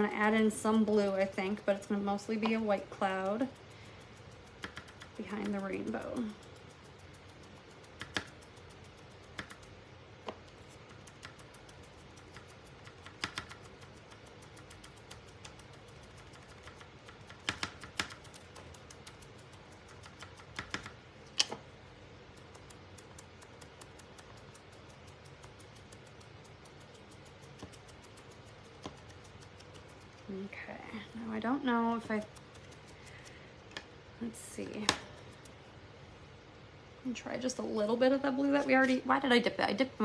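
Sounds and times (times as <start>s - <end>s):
low room hum: 0.0s - 40.0s.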